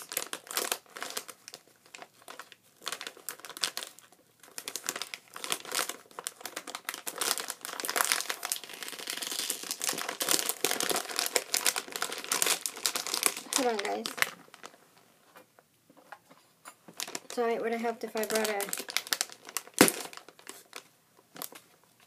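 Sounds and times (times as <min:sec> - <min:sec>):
plastic bag crinkling: 0:00.0 - 0:14.8, 0:16.9 - 0:22.0.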